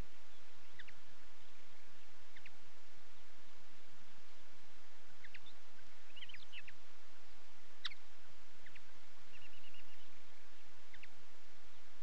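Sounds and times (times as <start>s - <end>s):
songbirds chirping: 0.0s - 12.0s
steady background hiss: 0.0s - 12.0s.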